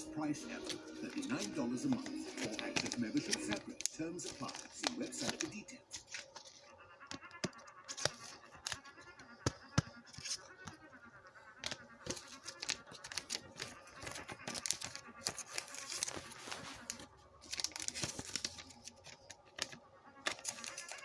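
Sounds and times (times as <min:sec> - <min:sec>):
packaging tearing and crinkling: 0:00.0 - 0:10.9, 0:11.6 - 0:21.0.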